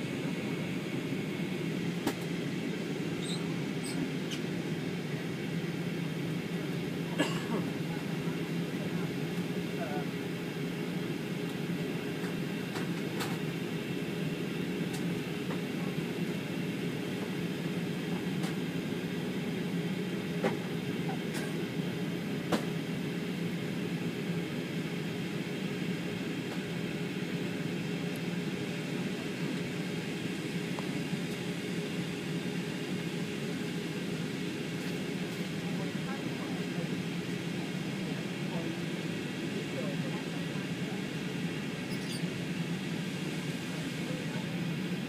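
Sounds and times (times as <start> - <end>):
airliner cabin engine rush: 0.0 - 45.0.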